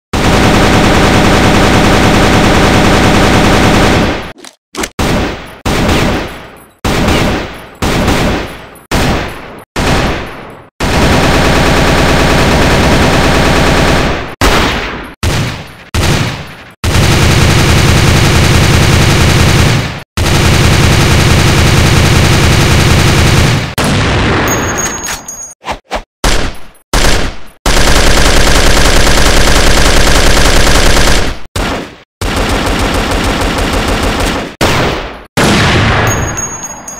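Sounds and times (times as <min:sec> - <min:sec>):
automatic gunfire: 0:00.2 - 0:04.3, 0:05.0 - 0:23.9, 0:26.2 - 0:36.2.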